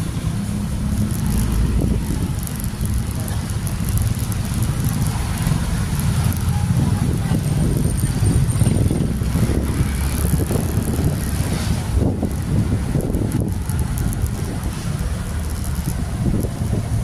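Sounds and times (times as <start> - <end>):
motorcycle engine and road noise: 0.0 - 17.0
wind on microphone: 0.0 - 17.0.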